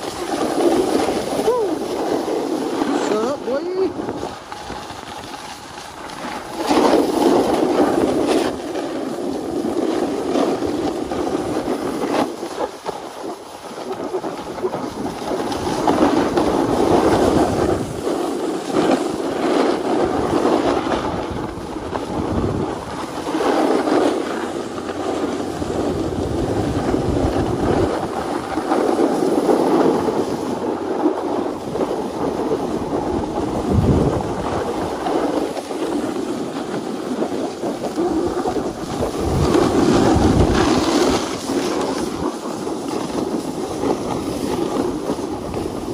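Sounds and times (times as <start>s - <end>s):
snowboard scraping on snow: 0.0s - 45.9s
wind on microphone: 0.0s - 45.9s.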